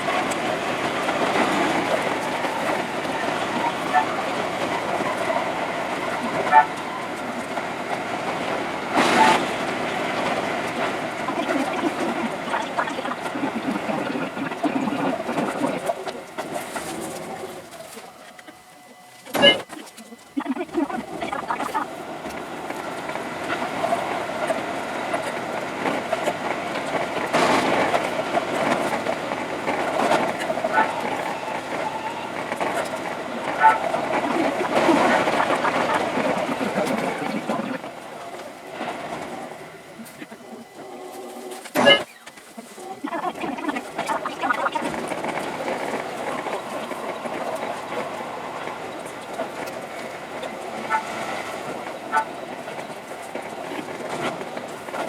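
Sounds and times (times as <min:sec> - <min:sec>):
electric train running: 0:00.0 - 0:55.0
wheel and rail noise: 0:00.0 - 0:55.0.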